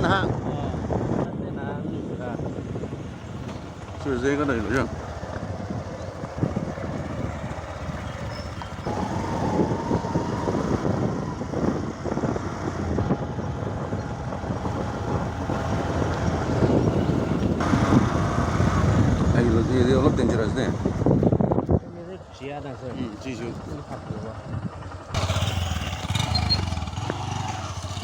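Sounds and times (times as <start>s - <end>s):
motorcycle engine running: 0.0s - 21.9s, 22.6s - 28.0s.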